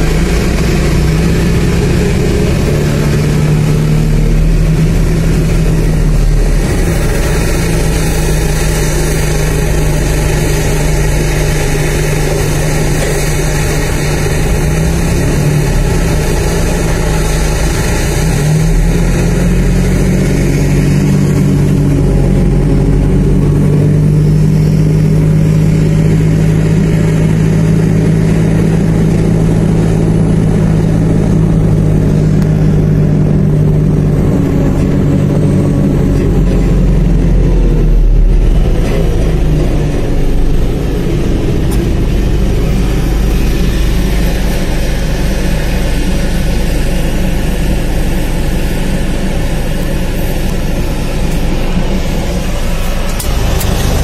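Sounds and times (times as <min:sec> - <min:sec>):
steady low hum: 0:00.0 - 0:54.0
tug engine running: 0:00.0 - 0:54.0.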